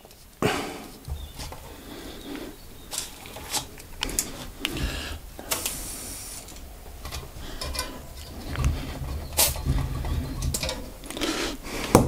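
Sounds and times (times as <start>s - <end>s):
air hissing: 0.4s - 12.0s.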